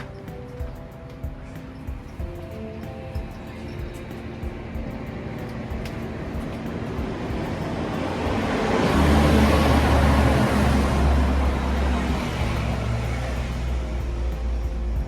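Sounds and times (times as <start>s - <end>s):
low engine hum: 0.0s - 15.0s
vehicle passing: 2.4s - 15.0s.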